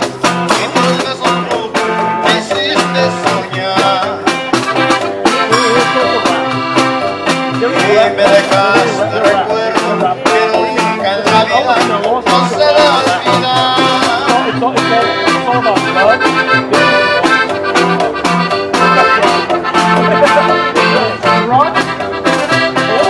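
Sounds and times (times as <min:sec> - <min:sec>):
accordion melody: 0:00.0 - 0:23.0
acoustic guitar: 0:00.0 - 0:23.0
drum kit beat: 0:00.0 - 0:23.0
upright bass: 0:00.0 - 0:23.0.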